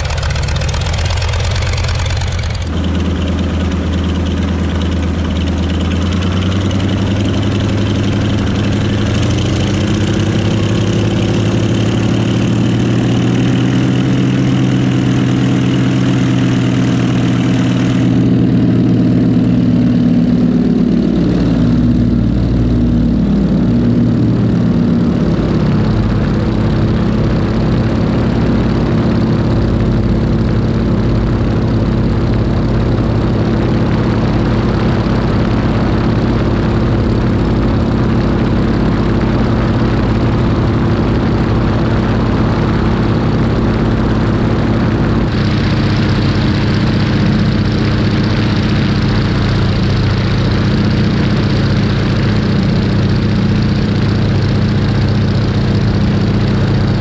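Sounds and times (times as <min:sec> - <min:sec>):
radial engine running: 0:00.0 - 0:57.0
radial engine ticking over: 0:00.0 - 0:57.0.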